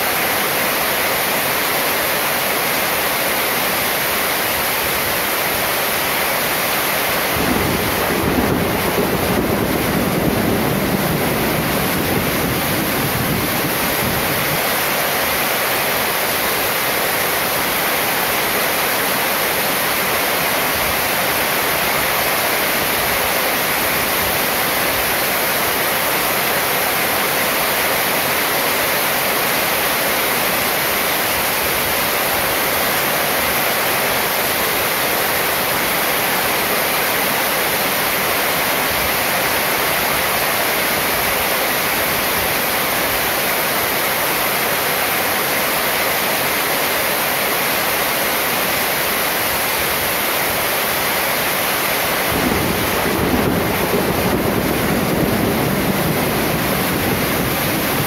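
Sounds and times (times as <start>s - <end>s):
heavy rain on metal roof: 0.0s - 58.0s
water streaming off roof edge: 0.0s - 58.0s.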